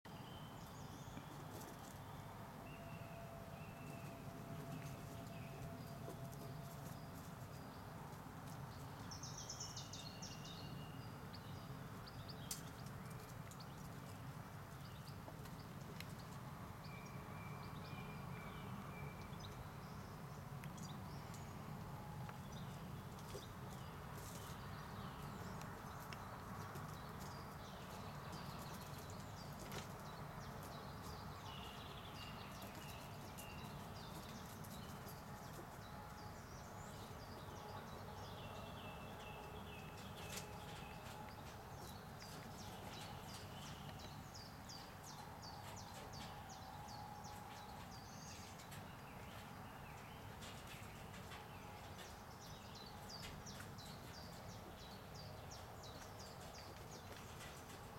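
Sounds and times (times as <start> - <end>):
small birds chirping and twittering: 0.1 - 57.9.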